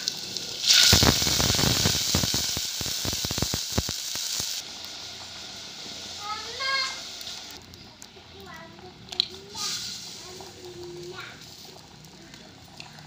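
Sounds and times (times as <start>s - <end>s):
crackles: 0.0s - 13.0s
liquid sizzling in hot pot: 0.0s - 13.0s.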